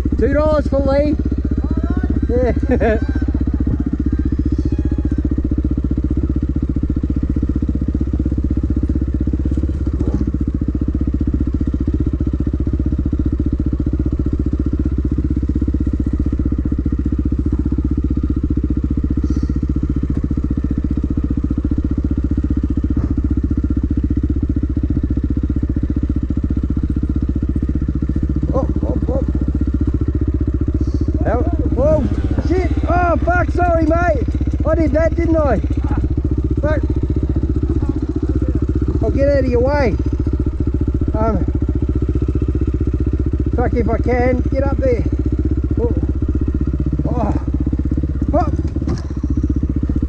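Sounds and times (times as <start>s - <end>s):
dirt bike engine idling: 0.0s - 50.0s.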